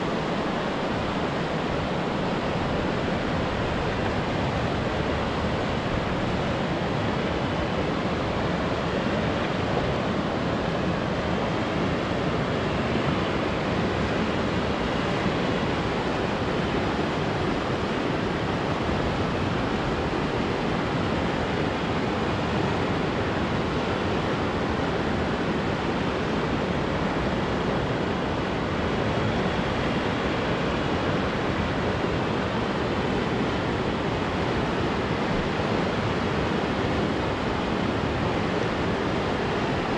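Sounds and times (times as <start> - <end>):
river rushing over rapids: 0.0 - 39.9.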